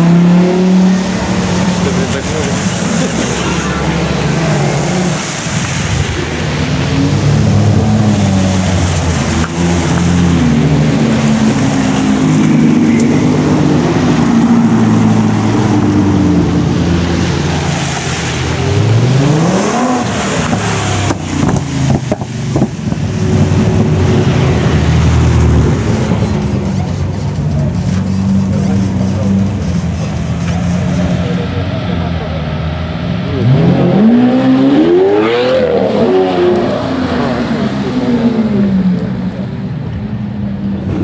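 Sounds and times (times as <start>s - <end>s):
race car engines revving: 0.0s - 41.0s.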